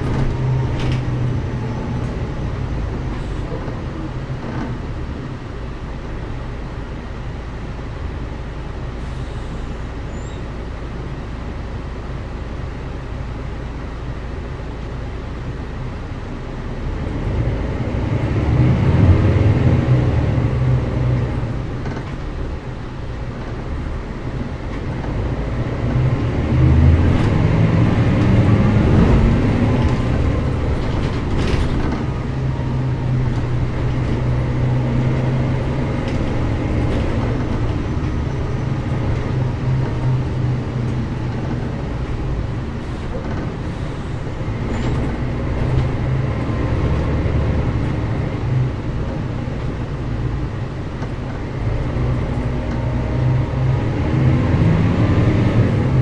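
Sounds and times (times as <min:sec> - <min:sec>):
bus diesel engine: 0:00.0 - 0:56.0.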